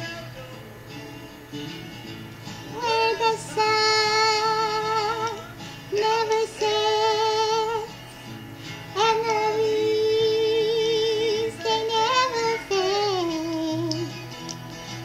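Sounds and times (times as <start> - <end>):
high voice singing with vibrato: 0.0 - 1.7, 2.7 - 8.1, 8.9 - 14.3
backing accompaniment: 0.0 - 15.0.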